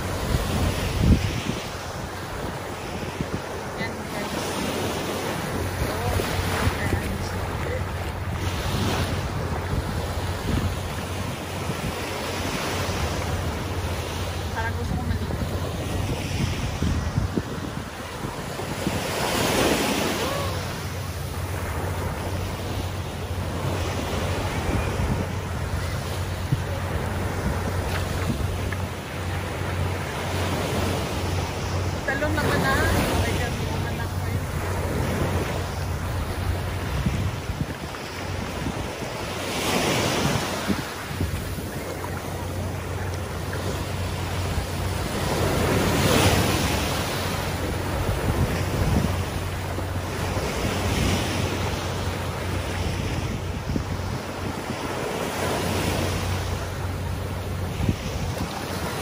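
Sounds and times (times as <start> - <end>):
small waves washing on sand: 0.0 - 59.0
wind rumbling on microphone: 0.0 - 59.0.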